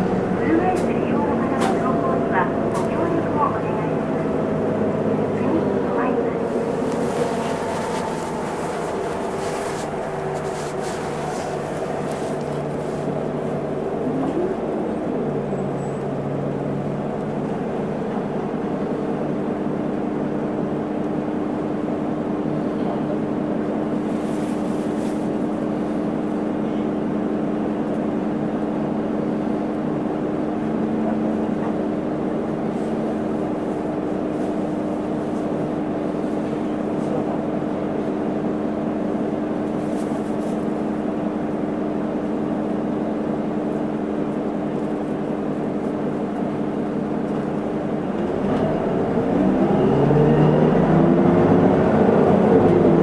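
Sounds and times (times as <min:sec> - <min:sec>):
bus diesel engine humming: 0:00.0 - 0:53.0
road noise: 0:00.0 - 0:53.0.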